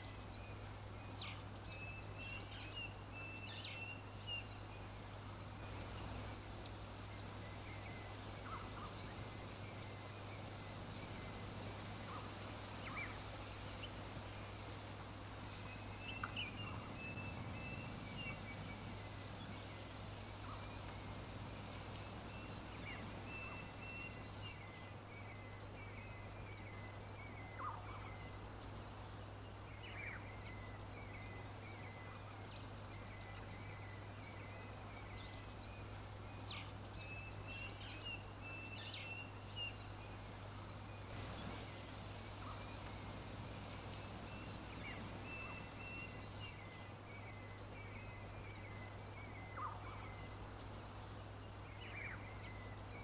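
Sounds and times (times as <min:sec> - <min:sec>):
constant low hum: 0:00.0 - 0:53.0
small birds chirping: 0:00.0 - 0:53.0.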